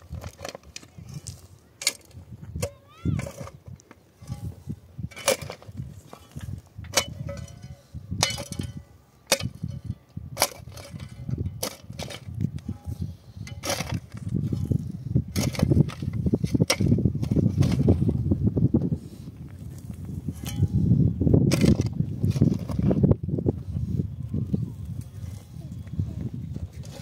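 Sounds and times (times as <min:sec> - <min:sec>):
shovel digging stony soil: 0:00.0 - 0:18.2, 0:19.5 - 0:23.1, 0:25.0 - 0:27.0.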